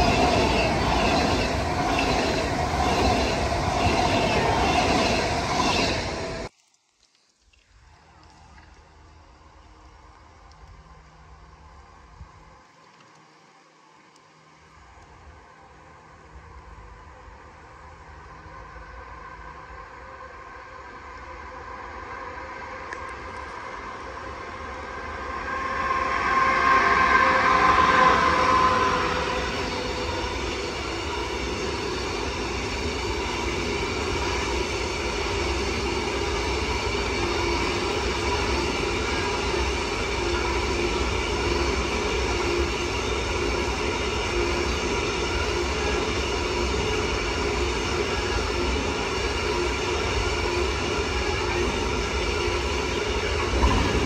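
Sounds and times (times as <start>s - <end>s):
freight train rolling on rails: 0.0s - 6.5s, 16.3s - 54.0s
locomotive steady tones: 0.0s - 6.5s, 7.9s - 54.0s.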